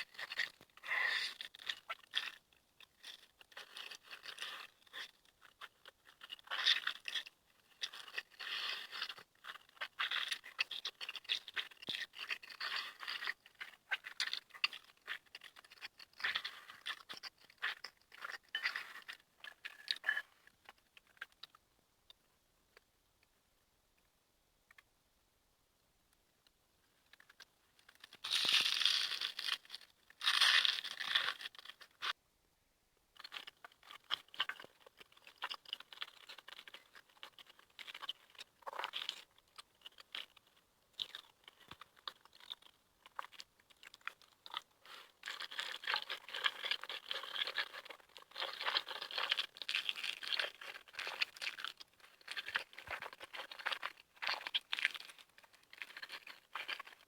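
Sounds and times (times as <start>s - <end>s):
chewing with crackling clicks: 0.0s - 22.2s, 27.1s - 32.2s, 33.2s - 57.0s.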